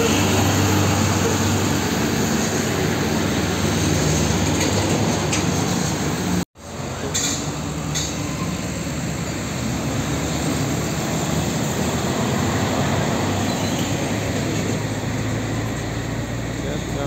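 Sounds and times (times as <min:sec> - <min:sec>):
diesel trucks passing: 0:00.0 - 0:17.0.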